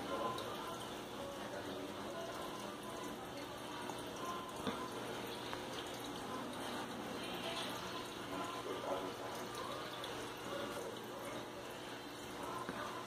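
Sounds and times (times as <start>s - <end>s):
aquarium water trickling: 0.0s - 13.0s
faint voices: 0.0s - 13.0s.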